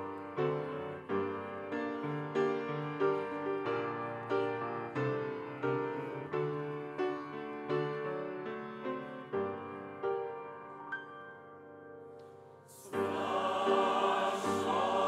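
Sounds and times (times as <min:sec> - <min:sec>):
grand piano playing hymn: 0:00.0 - 0:15.0.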